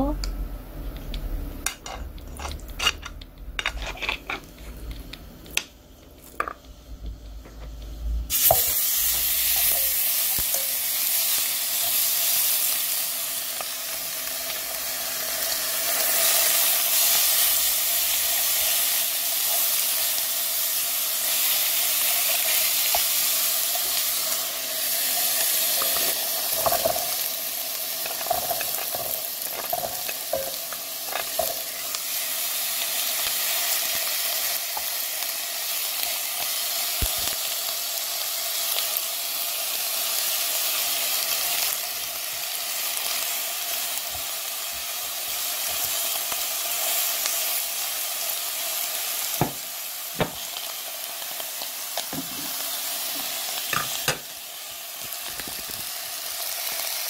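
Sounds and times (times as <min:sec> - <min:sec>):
meat sizzling in a pan: 0:03.6 - 0:57.0.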